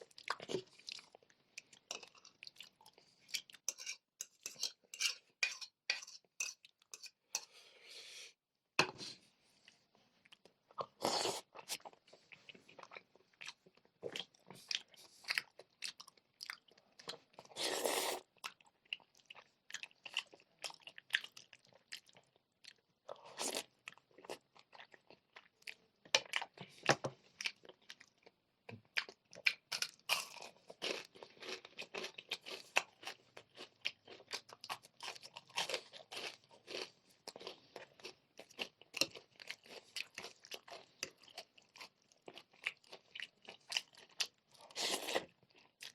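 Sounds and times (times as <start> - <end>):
chewing and crunching food: 0.0 - 7.5, 9.6 - 45.9.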